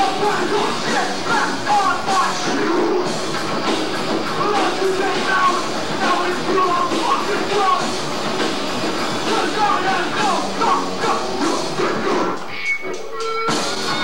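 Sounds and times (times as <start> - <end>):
loud distorted punk rock band: 0.0 - 14.0.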